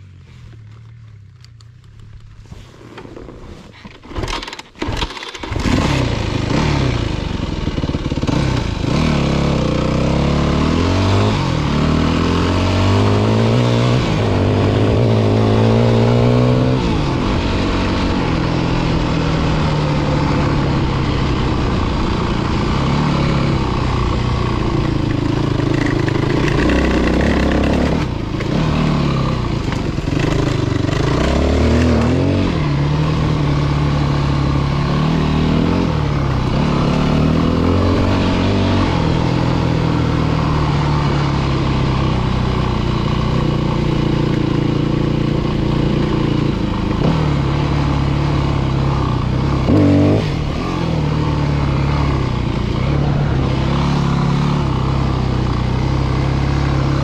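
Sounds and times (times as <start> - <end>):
dirt bike engine revving: 4.8 - 57.0.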